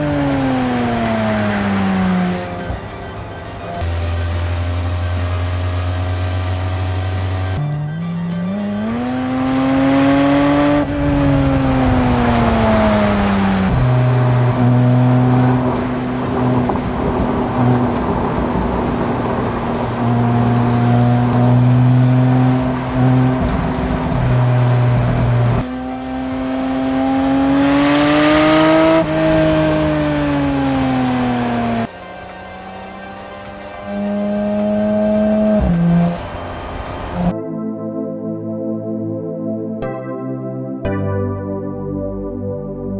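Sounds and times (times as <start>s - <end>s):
car engine revving: 0.0s - 37.3s.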